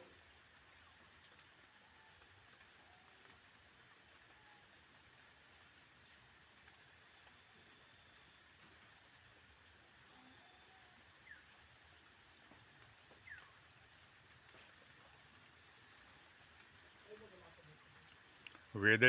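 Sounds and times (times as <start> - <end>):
light rain hiss: 0.0 - 19.0
small raindrops: 0.0 - 19.0.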